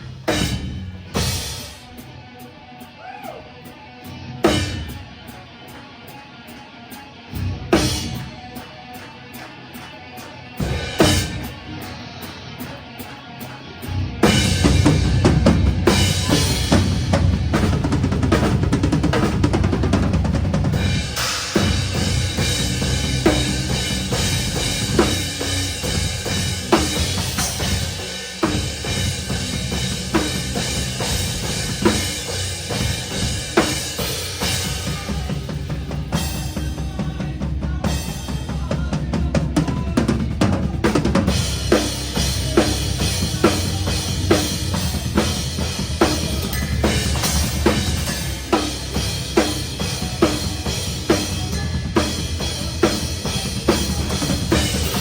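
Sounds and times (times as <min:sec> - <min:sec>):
bass drum beat: 0:00.0 - 0:01.7, 0:10.6 - 0:12.7, 0:13.8 - 0:55.0
live metal band playing: 0:00.0 - 0:55.0.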